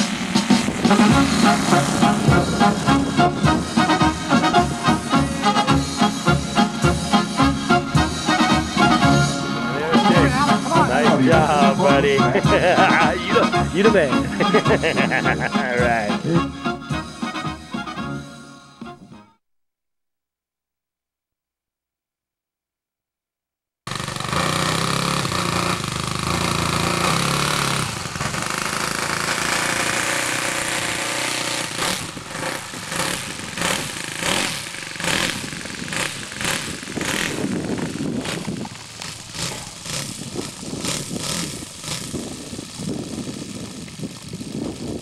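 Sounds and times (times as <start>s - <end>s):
piston aircraft engine running: 0.0s - 18.1s, 23.9s - 45.0s.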